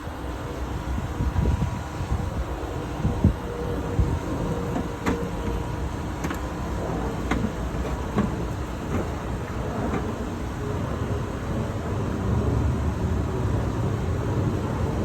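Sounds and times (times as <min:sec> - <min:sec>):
heavy machine engine rumbling: 0:00.7 - 0:15.0.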